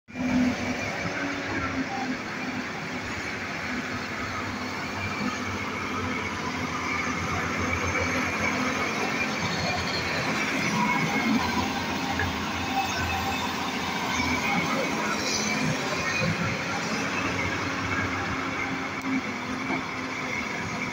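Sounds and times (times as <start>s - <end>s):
excavator diesel engines running: 0.1s - 20.9s
excavators digging in mud and water: 0.1s - 20.9s.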